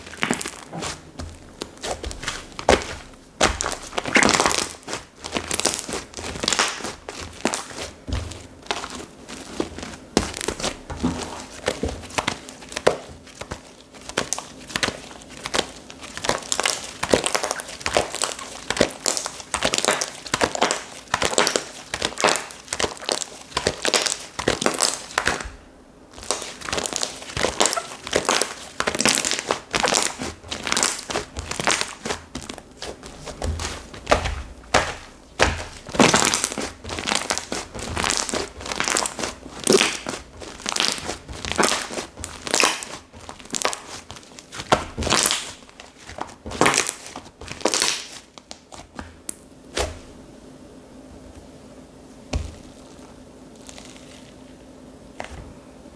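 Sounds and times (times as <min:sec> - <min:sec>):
slime crackling and popping: 0:00.0 - 0:50.0, 0:52.4 - 0:54.4.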